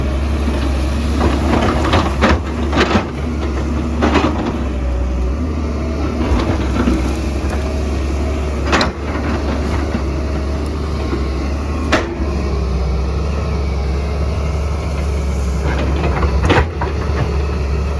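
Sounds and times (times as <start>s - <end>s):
diesel engine droning: 0.0s - 17.9s.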